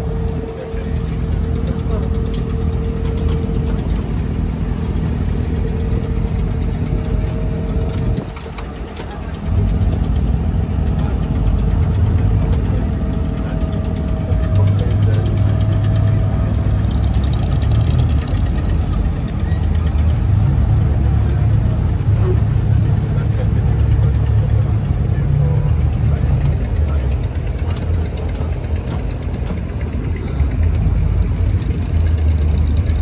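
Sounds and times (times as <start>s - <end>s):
boat diesel engine running: 0.0s - 33.0s.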